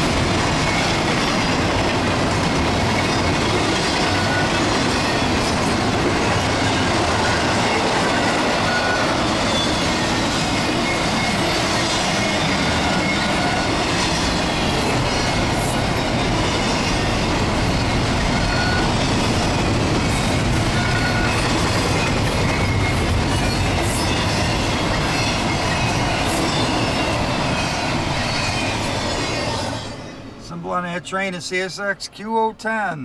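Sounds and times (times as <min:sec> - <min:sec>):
freight train wheels rumbling on rails: 0:00.0 - 0:30.8.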